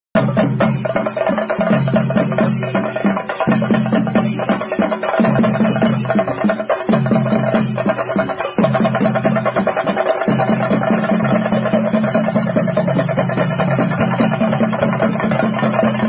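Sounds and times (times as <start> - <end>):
rapid drumming with sticks: 0.2 - 16.0.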